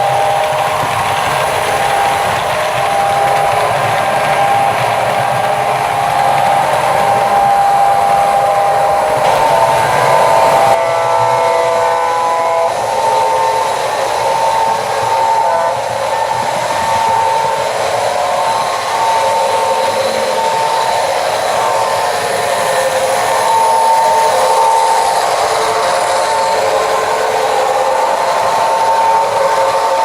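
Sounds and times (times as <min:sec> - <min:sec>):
model locomotive motor whine: 0:00.0 - 0:30.0.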